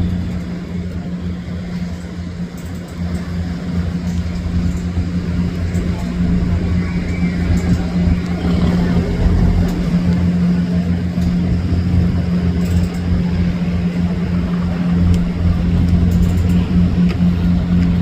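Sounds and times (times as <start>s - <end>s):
tugboat diesel engine drone: 0.0s - 18.0s.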